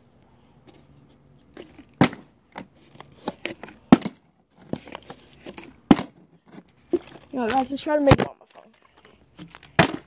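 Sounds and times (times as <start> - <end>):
plastic bottle crinkling and knocking: 1.4 - 10.0.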